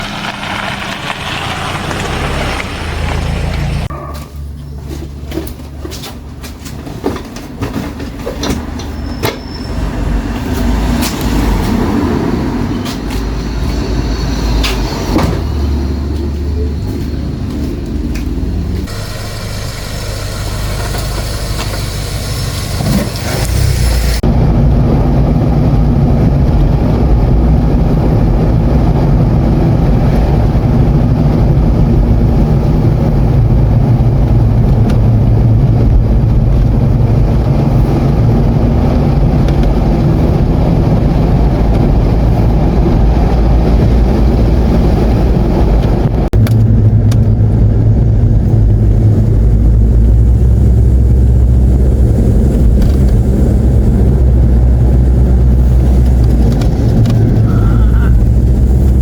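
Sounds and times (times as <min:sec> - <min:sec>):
vehicle engine and road noise: 0:00.0 - 0:59.0
low rumble: 0:09.0 - 0:59.0.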